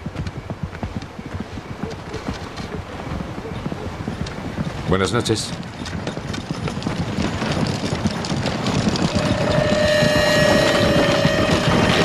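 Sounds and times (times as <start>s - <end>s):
horse hooves and wagon wheels: 0.0s - 12.0s.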